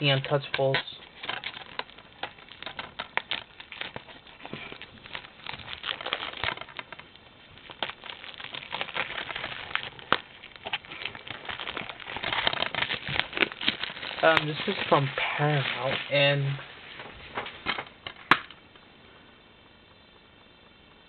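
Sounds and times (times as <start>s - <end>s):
wrapping crinkling: 0.0s - 18.7s.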